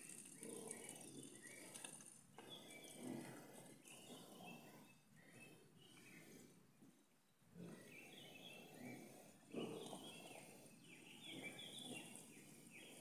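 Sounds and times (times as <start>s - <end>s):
low outdoor murmur: 0.0s - 13.0s
small birds chirping: 0.0s - 13.0s.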